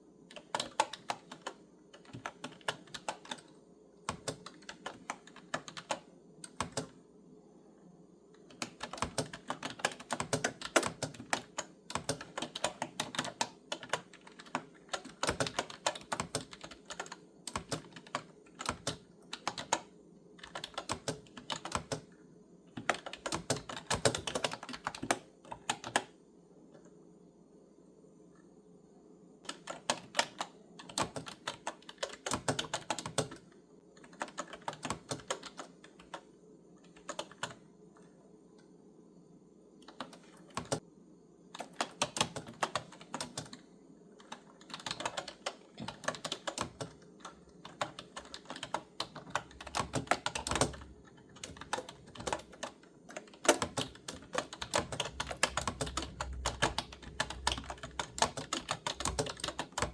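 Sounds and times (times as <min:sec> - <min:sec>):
clicky keyboard typing: 0:00.3 - 0:07.0, 0:08.4 - 0:27.0, 0:29.4 - 0:38.7, 0:39.8 - 0:40.8, 0:41.6 - 0:43.6, 0:44.2 - 0:59.9.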